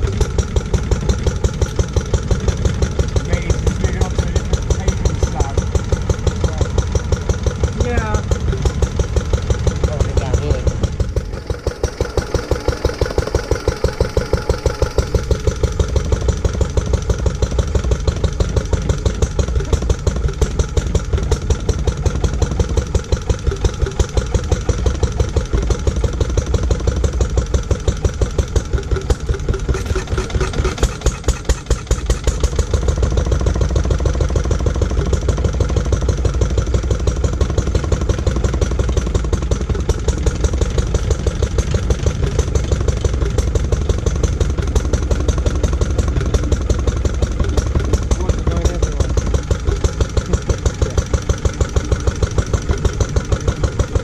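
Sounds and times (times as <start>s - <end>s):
stationary engine running: 0.0s - 54.0s.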